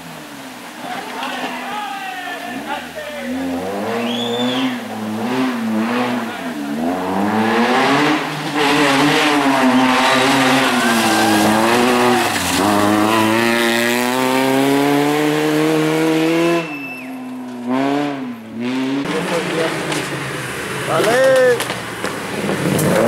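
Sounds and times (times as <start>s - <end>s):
rally car engine revving: 2.5s - 23.0s.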